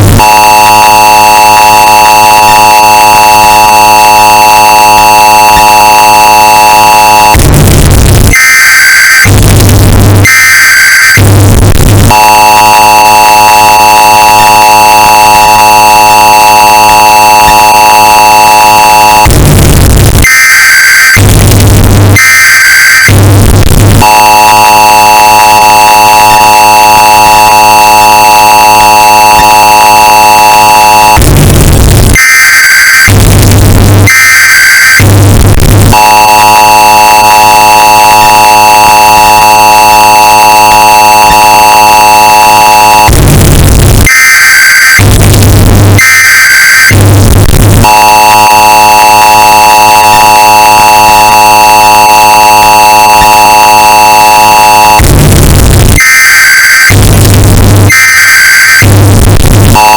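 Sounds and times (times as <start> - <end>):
deep bass drone: 0.0 - 1.6, 2.3 - 15.9, 16.5 - 32.2, 32.8 - 44.2, 44.8 - 51.6, 54.4 - 55.9, 56.8 - 57.9, 58.6 - 59.9
distorted two-tone attention signal: 0.0 - 59.9
harsh buzzing data bursts: 0.0 - 59.9.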